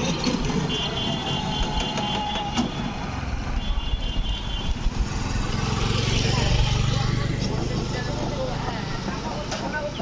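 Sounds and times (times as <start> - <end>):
motorcycles passing: 0.0 - 10.0.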